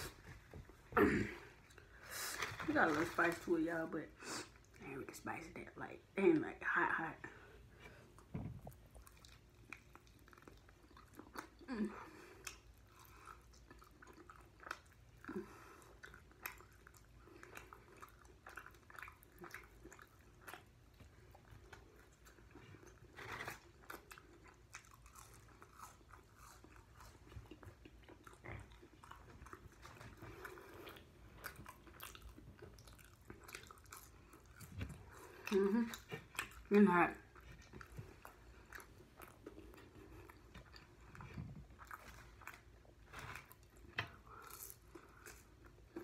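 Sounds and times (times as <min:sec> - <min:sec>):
chewing and crunching: 0:07.2 - 0:46.0.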